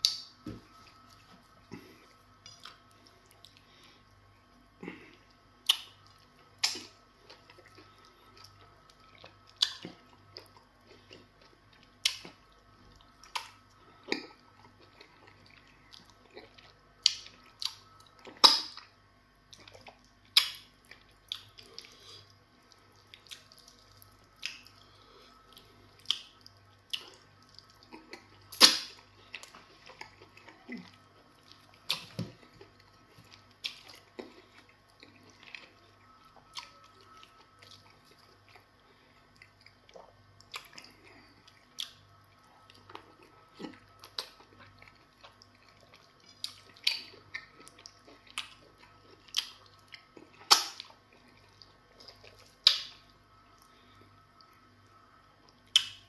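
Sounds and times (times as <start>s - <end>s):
chewing and lip-smacking: 0.9s - 56.0s.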